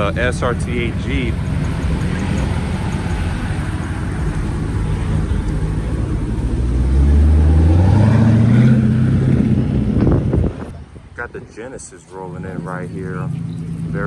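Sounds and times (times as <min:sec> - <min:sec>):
car exhaust rumble: 0:00.0 - 0:14.0.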